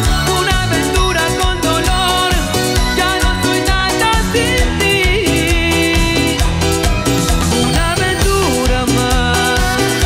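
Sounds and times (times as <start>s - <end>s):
live band music: 0.0s - 10.0s.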